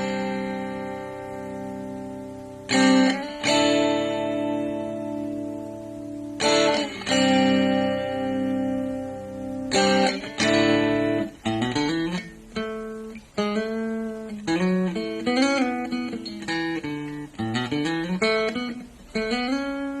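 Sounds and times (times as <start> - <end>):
electric guitar through amplifier: 0.0 - 20.0.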